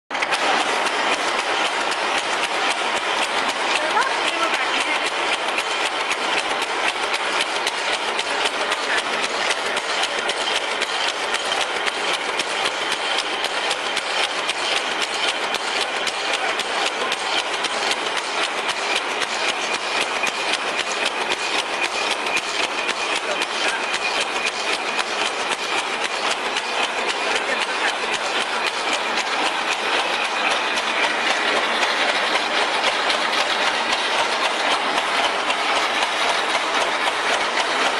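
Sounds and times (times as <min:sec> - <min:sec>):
machine metallic clatter: 0:00.1 - 0:37.9.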